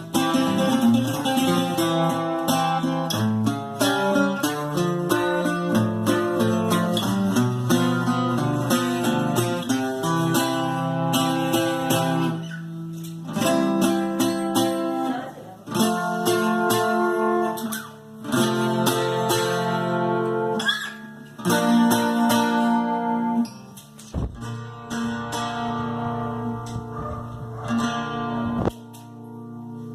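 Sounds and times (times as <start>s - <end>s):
guitar strummed and picked: 0.0s - 29.9s.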